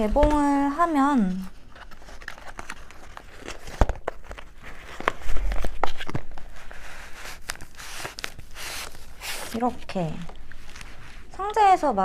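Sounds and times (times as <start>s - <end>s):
packaging rustling and scraping: 0.0s - 11.5s.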